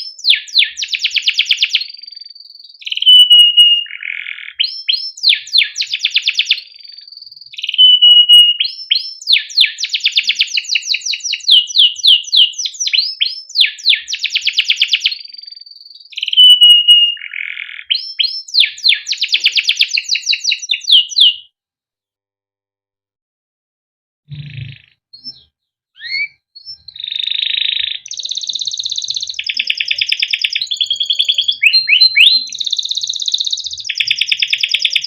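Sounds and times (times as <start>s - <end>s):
canary singing: 0.0s - 21.5s, 24.3s - 35.0s.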